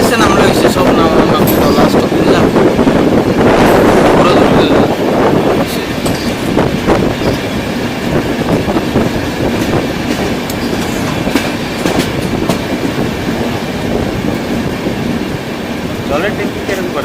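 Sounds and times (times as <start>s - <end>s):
train coach rumbling: 0.0s - 17.0s
wheels clattering over rail joints: 0.4s - 15.2s.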